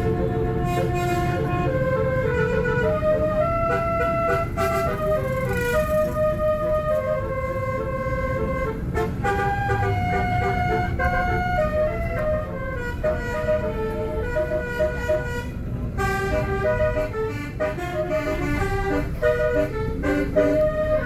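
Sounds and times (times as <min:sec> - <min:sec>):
low road rumble: 0:00.0 - 0:21.0
musical air horn tune: 0:00.0 - 0:21.0.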